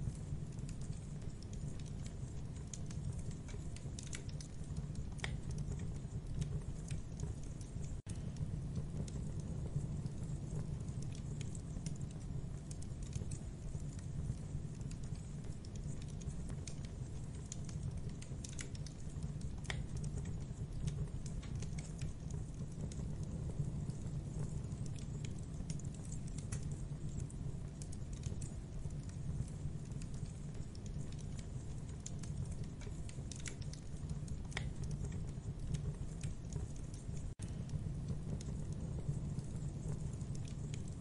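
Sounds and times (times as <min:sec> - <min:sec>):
campfire crackling and popping: 0:00.0 - 0:41.0
low fire rumble: 0:00.0 - 0:41.0.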